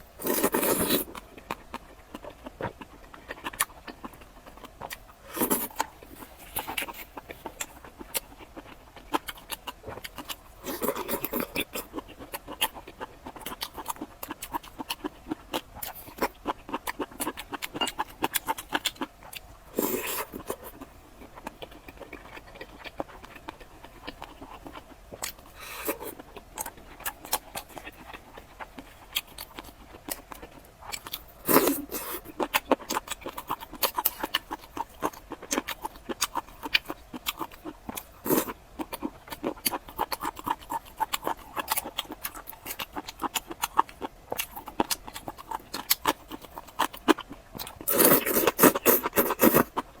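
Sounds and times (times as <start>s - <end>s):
person chewing food: 0.0s - 50.0s.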